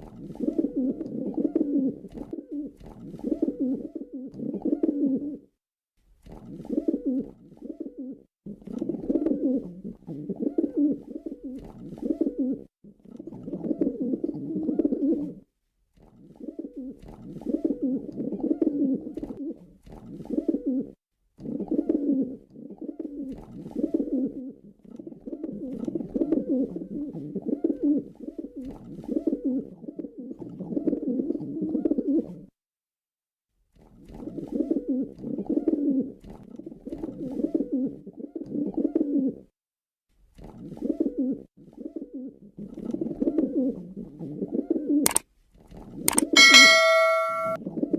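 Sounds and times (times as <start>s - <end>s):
pigeon cooing: 0.0s - 5.5s, 6.4s - 15.4s, 16.3s - 32.5s, 34.3s - 36.2s, 36.9s - 39.5s, 40.7s - 45.1s, 46.3s - 47.5s.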